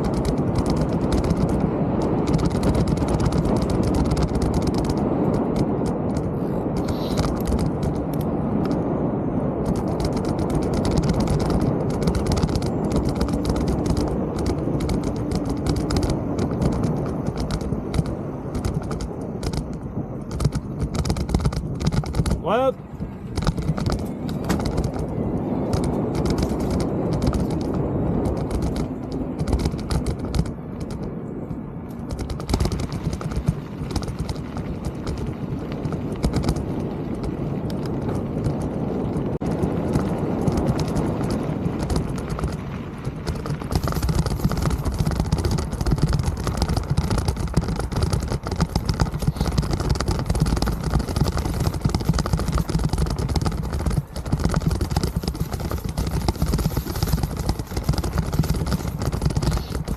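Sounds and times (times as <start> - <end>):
mountain bike rattling on rough trail: 0.0 - 59.9.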